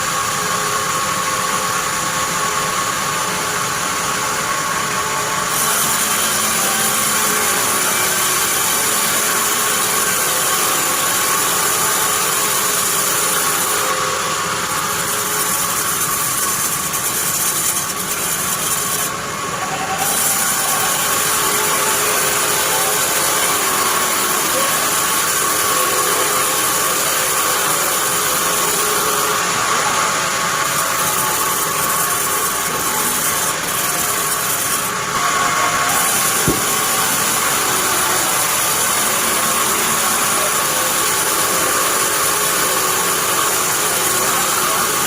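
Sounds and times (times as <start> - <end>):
bandsaw whining: 0.0 - 45.0.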